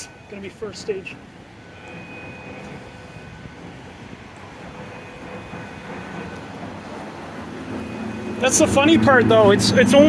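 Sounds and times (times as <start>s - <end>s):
city traffic noise: 0.0s - 10.0s.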